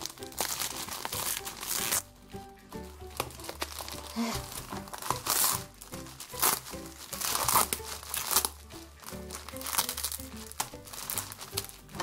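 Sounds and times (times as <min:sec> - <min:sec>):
packaging crinkling: 0:00.0 - 0:02.1, 0:02.8 - 0:12.0
background music: 0:00.0 - 0:12.0.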